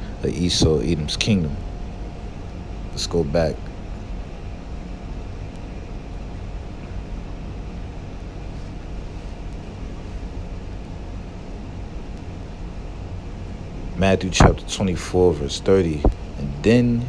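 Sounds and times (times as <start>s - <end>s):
air conditioning vent blowing: 0.0s - 17.0s
faint hum: 0.0s - 17.0s.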